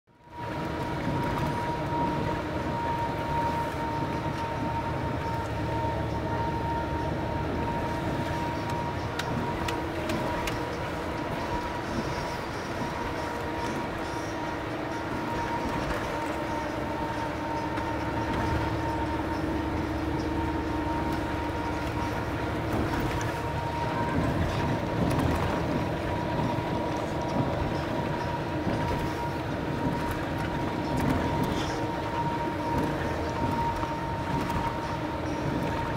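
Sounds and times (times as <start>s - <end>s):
bus engine and road noise: 0.0s - 35.9s
thin steady whine: 0.1s - 35.9s.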